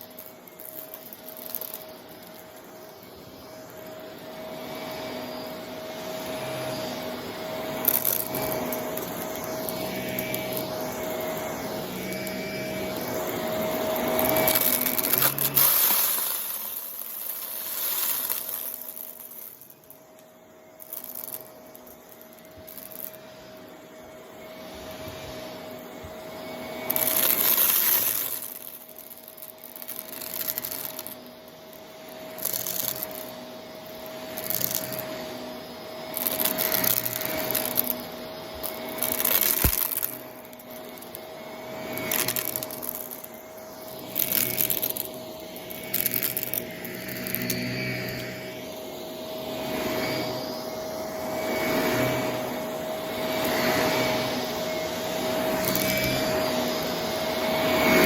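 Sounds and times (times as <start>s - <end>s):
vacuum cleaner motor whine: 0.0s - 58.0s
vacuum sucking up gritty debris: 0.0s - 58.0s.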